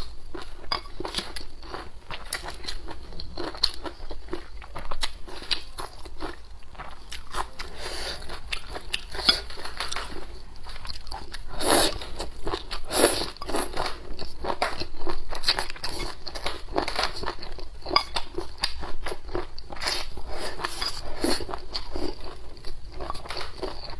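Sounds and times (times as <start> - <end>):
person chewing crunchy food: 0.0 - 23.9.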